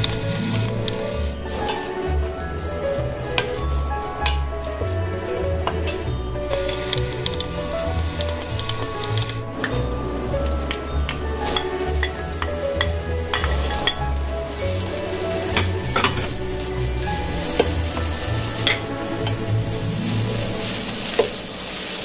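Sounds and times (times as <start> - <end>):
wooden spatula scraping pan: 0.0 - 22.0.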